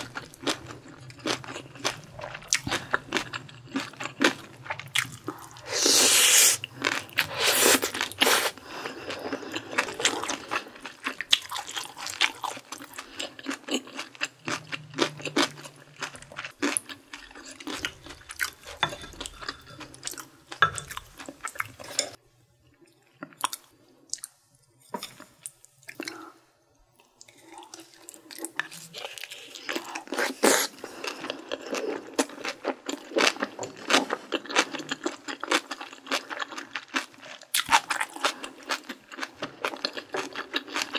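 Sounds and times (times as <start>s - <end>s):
person chewing and crunching food: 0.0s - 26.4s, 27.0s - 40.9s.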